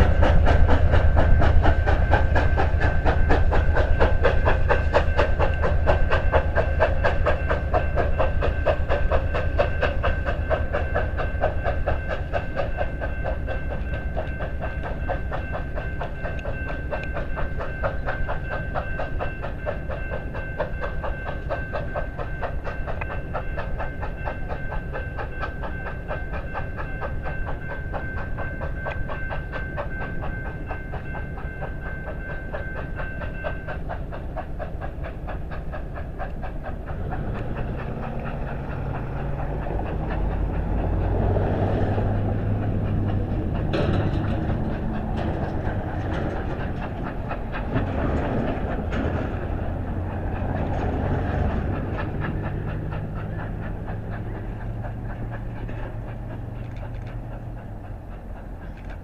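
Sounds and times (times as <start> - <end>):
train rumble: 0.0 - 59.0
wheels clicking over rail joints: 0.0 - 59.0.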